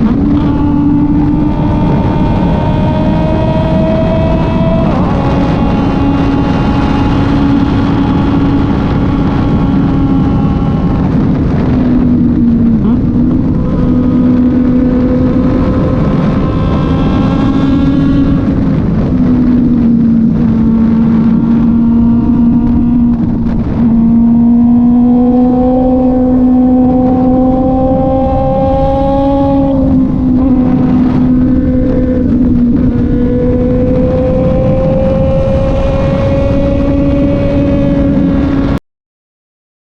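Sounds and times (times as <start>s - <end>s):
motorcycle engine running: 0.0s - 38.8s
wind and road noise: 0.0s - 38.8s.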